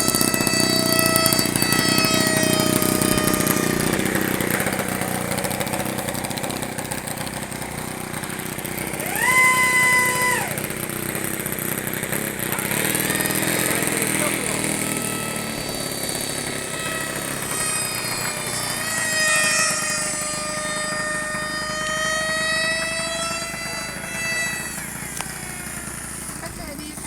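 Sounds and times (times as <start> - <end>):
model helicopter motor whining: 0.0 - 27.0.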